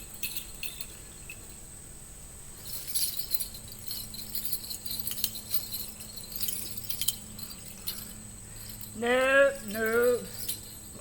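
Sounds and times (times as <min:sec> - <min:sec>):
light metallic jingling: 0:00.0 - 0:01.8, 0:02.5 - 0:11.0
insect drone: 0:00.0 - 0:11.0.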